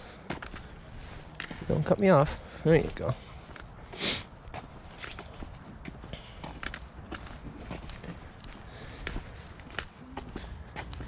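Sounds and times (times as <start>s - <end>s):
footsteps of person and dog: 0.2s - 11.0s.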